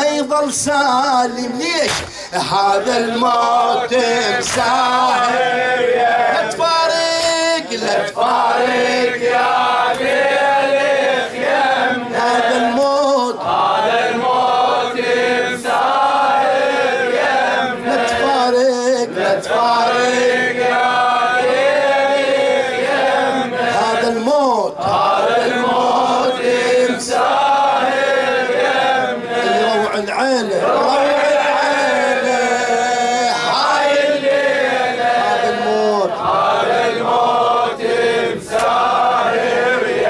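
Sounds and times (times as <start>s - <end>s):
men chanting a lament: 0.0s - 40.0s.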